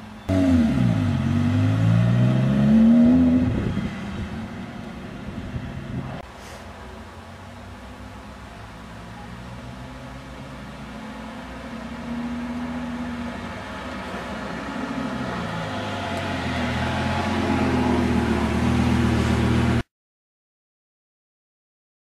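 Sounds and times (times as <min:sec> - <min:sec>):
sports car engine driving up: 0:00.2 - 0:06.2, 0:07.9 - 0:19.8.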